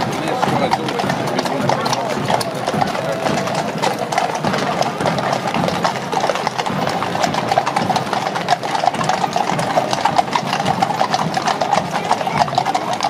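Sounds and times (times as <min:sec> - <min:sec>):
horse hooves clip-clopping on pavement: 0:00.0 - 0:13.0.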